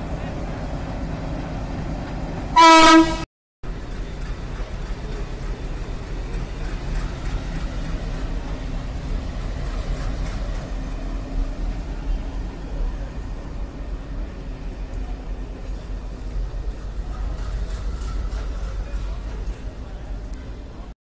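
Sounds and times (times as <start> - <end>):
vehicle rumble: 3.7 - 20.9.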